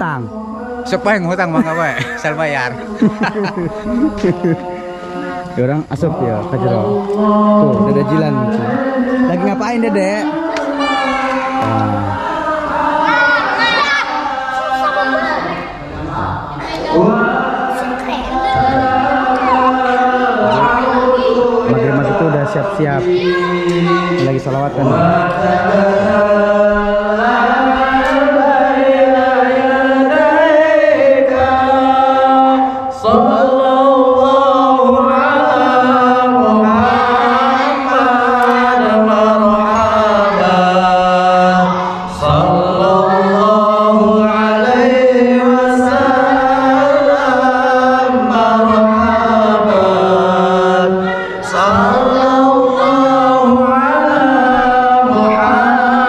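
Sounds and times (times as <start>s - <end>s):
men chanting through loudspeaker: 0.0s - 56.0s.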